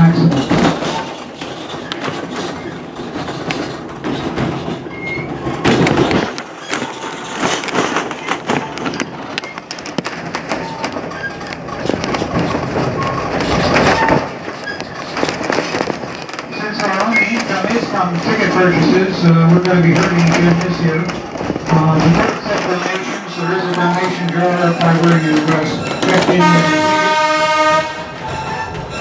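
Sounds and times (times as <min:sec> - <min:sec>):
train rumbling along track: 0:00.0 - 0:29.0
wheels clacking and knocking: 0:00.0 - 0:29.0.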